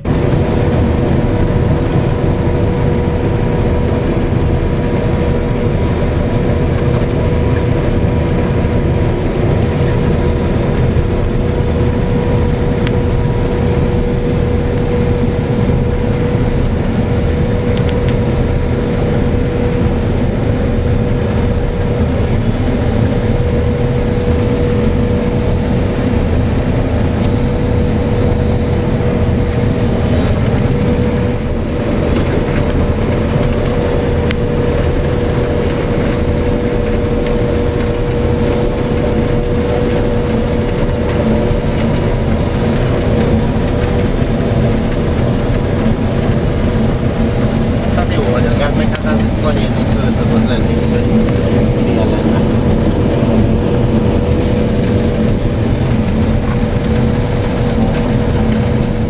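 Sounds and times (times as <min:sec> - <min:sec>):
combine harvester engine drone: 0:00.0 - 0:59.0
high whine: 0:00.0 - 0:59.0.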